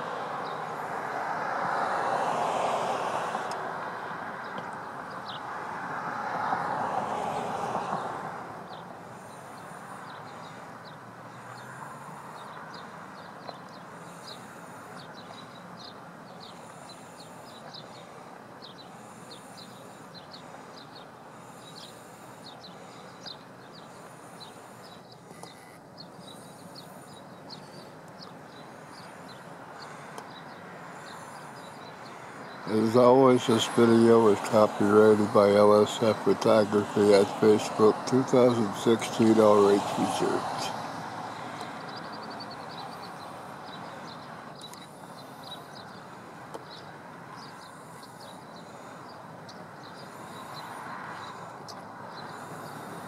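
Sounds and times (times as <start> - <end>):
outdoor background rush: 0.0 - 53.0.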